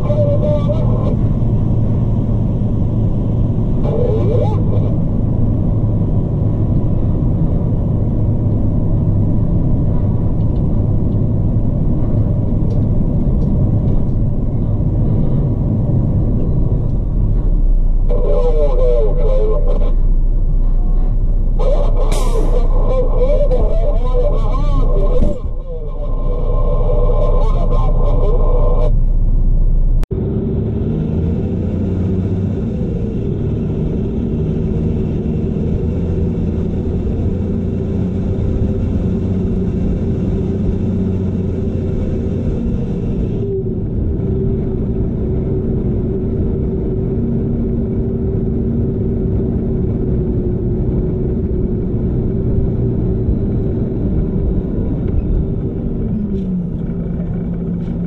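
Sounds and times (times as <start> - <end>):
truck diesel engine running: 0.0 - 58.0.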